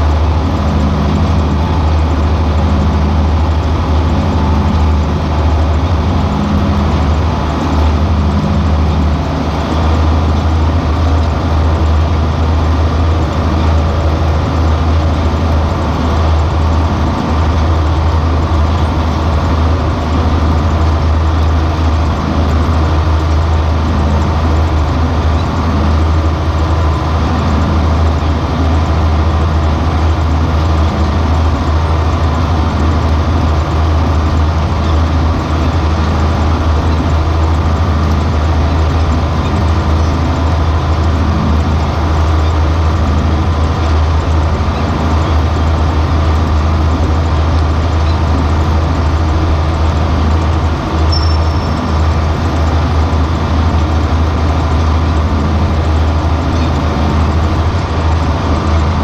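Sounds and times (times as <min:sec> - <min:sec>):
tractor diesel engine drone: 0:00.0 - 0:59.0.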